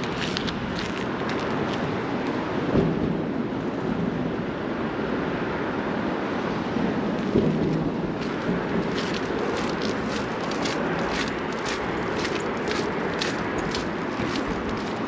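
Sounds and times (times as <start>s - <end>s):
low rumble of traffic: 0.0s - 15.0s
wind on microphone: 0.0s - 15.0s.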